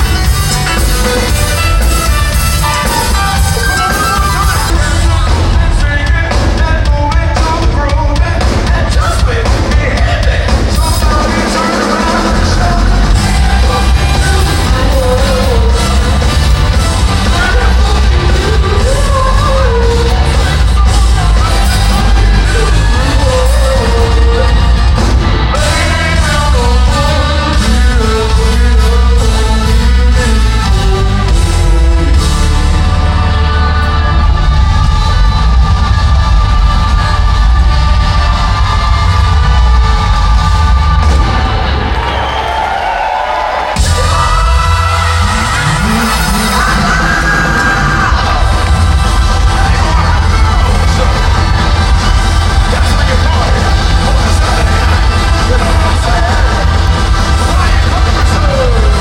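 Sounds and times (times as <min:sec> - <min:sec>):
band music with drum beat: 0:00.0 - 0:59.0.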